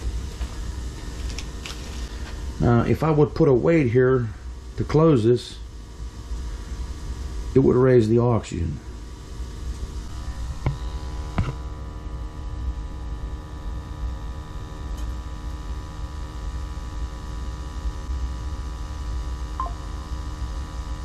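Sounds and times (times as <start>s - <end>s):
gas boiler burner rumbling: 0.0s - 19.5s.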